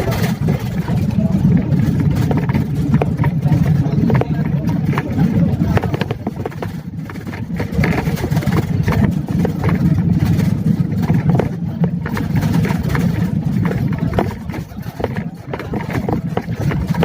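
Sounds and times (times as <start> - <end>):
small rattles and knocks: 0.0 - 17.0
vehicle engine and road rumble: 0.0 - 17.0.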